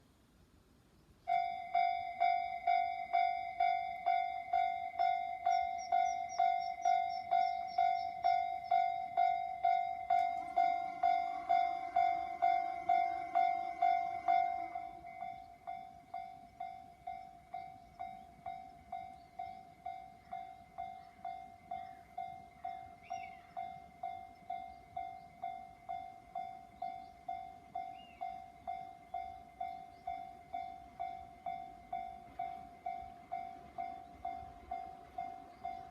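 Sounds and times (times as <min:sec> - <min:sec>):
level crossing warning bell: 0:01.3 - 0:35.9.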